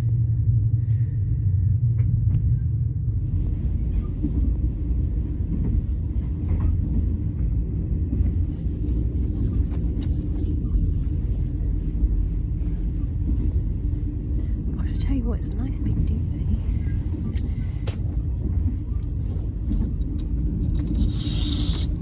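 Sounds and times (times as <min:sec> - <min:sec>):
train wheels rumbling on rails: 0:00.1 - 0:22.0.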